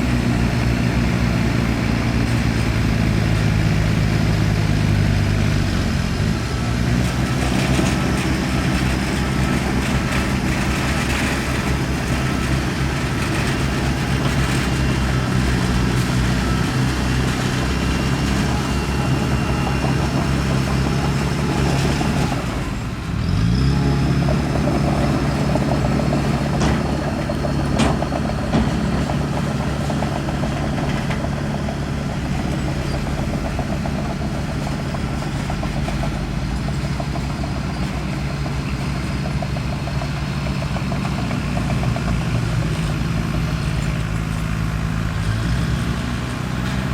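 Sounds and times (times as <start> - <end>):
heavy diesel engine revving: 0.0 - 46.9.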